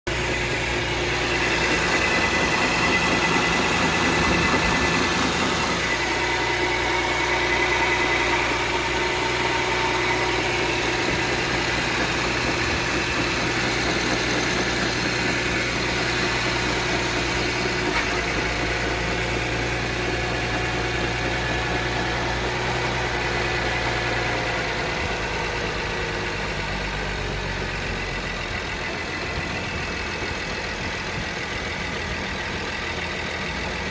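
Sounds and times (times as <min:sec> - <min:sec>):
engine idling with knock: 0:00.1 - 0:33.9.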